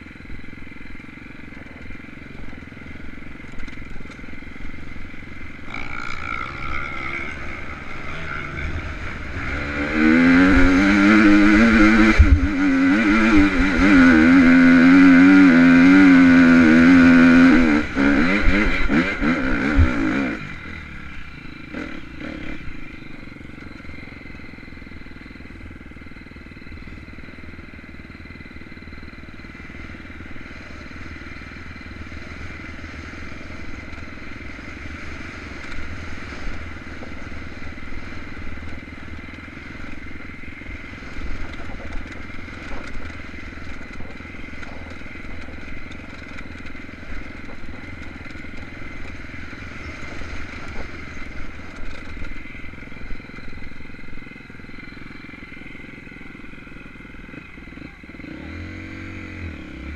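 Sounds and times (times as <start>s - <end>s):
dirt bike engine at high revs: 0.0s - 59.9s.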